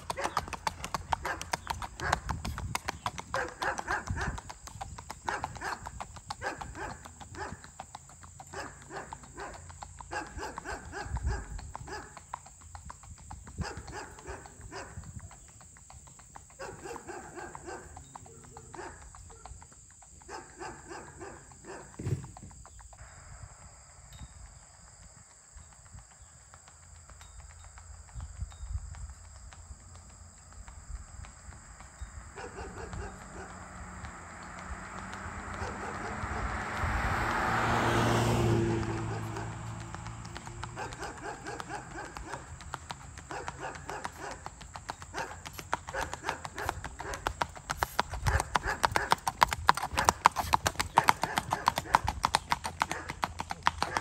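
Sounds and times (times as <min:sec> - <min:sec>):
hooves clip-clopping on asphalt: 0:00.0 - 0:54.0.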